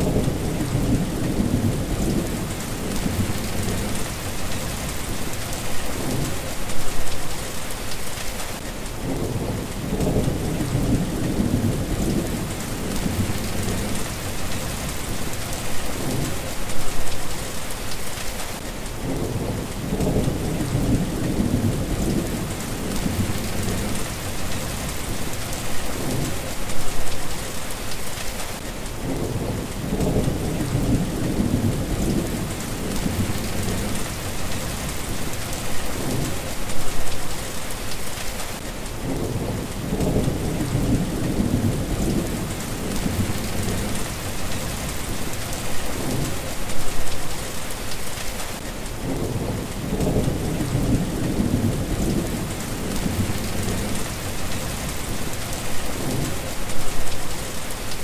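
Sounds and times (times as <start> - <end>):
thunder rumbling: 0.0 - 7.2, 9.0 - 17.2, 19.0 - 27.2, 29.0 - 37.2, 39.0 - 47.2, 49.0 - 57.2
rain hissing: 0.0 - 58.0.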